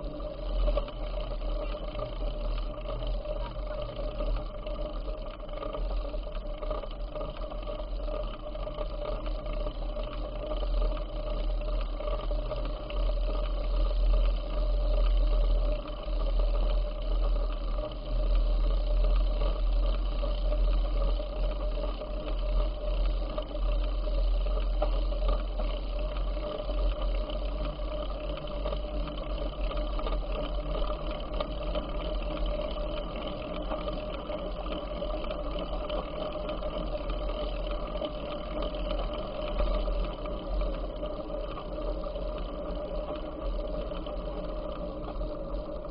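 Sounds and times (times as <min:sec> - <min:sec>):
bicycle whirring hum: 0:00.0 - 0:45.9.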